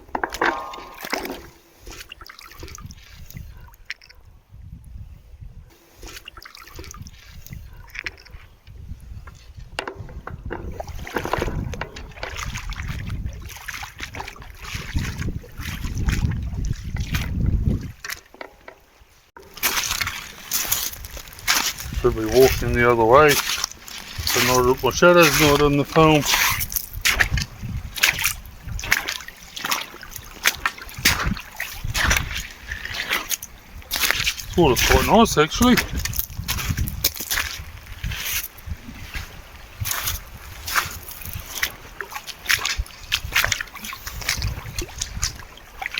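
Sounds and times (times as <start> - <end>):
river water splashing: 0.0 - 4.1, 5.7 - 8.4, 10.7 - 45.9
wind on microphone: 2.6 - 6.2, 6.8 - 18.1, 19.9 - 29.4, 30.1 - 45.8.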